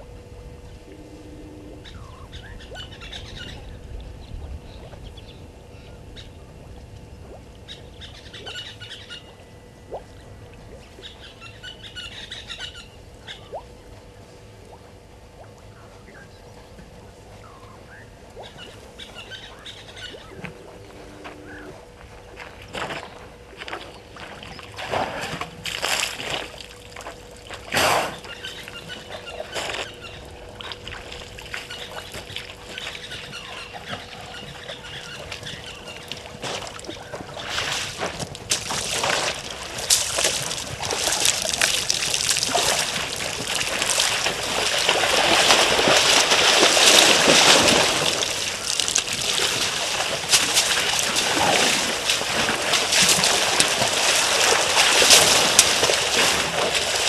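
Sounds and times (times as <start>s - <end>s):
water splashing and sloshing: 6.6s - 57.0s.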